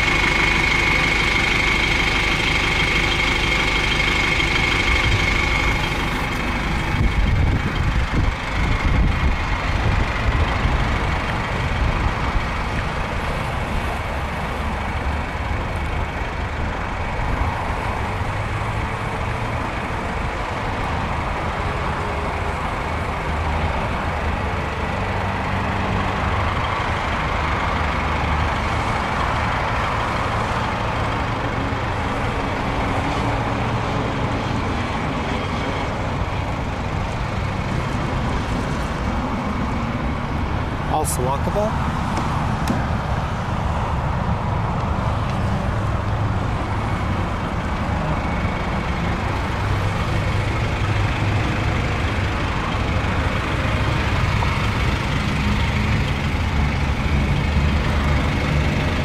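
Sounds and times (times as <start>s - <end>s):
minibus engine idling: 0.0s - 59.0s.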